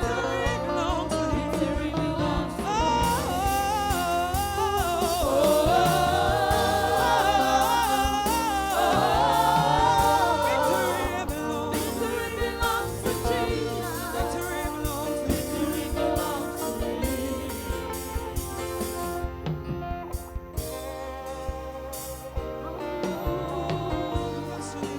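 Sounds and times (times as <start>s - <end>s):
bass and drum kit: 0.0s - 24.9s
gospel singing: 0.0s - 24.9s.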